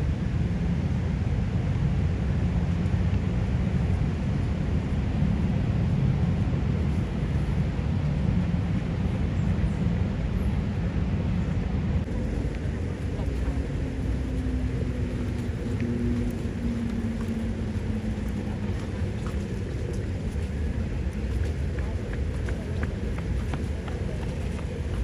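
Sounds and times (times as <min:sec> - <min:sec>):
faint engine hum: 0:00.0 - 0:25.0
low rumble of traffic: 0:00.0 - 0:25.0.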